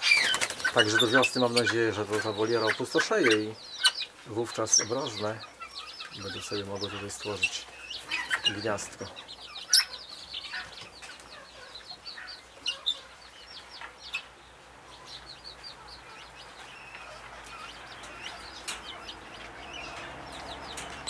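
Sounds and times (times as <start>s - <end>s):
parrots chirping: 0.0s - 21.0s.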